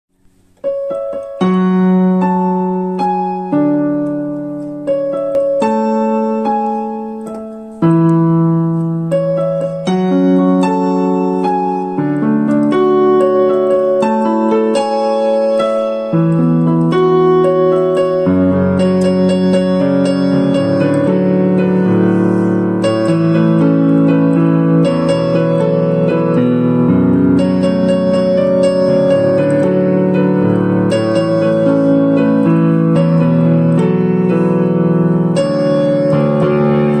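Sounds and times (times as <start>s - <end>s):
gentle piano melody: 0.2s - 37.0s.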